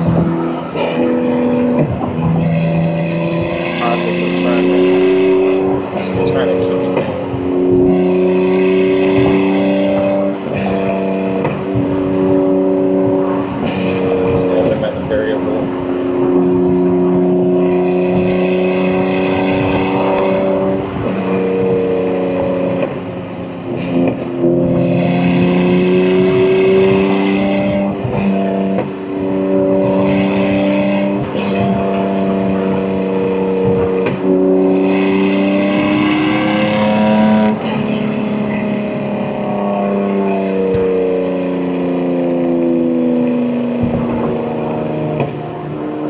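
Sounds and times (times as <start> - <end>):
car engine accelerating through gears: 0.0 - 46.0.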